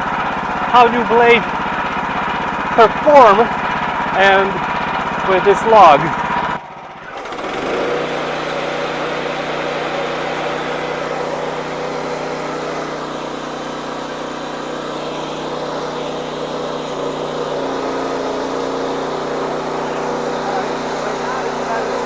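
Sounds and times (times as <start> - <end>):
band sawmill cutting log: 0.0 - 22.0.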